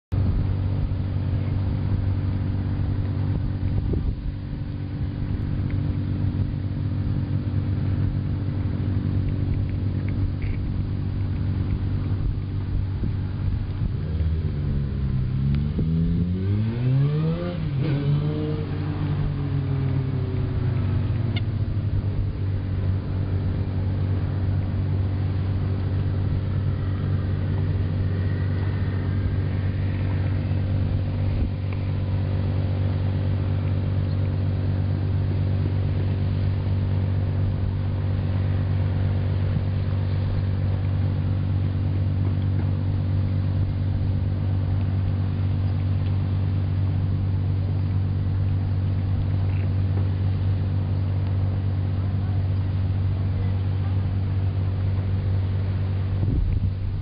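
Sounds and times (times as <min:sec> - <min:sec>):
boat engine droning: 0:00.1 - 0:57.0.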